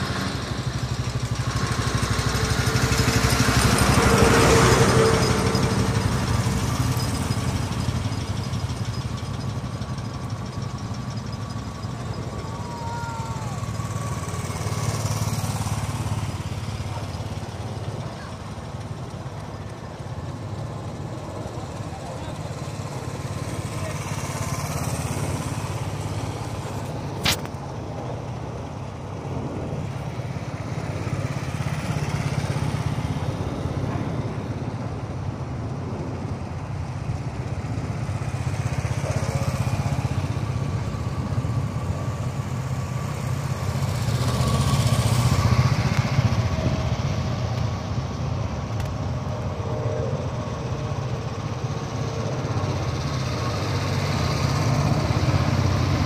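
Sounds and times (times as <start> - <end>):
motorcycles riding past: 0.0 - 56.0.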